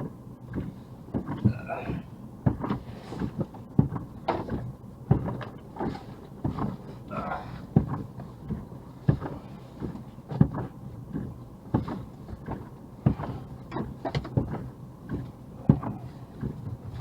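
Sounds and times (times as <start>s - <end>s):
car engine hum: 0.0s - 17.0s
knocks and clunks in car cabin: 0.0s - 17.0s.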